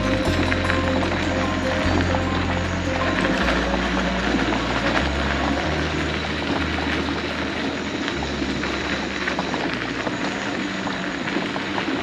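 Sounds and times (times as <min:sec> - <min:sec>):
mobility scooter motor hum: 0:00.0 - 0:12.0.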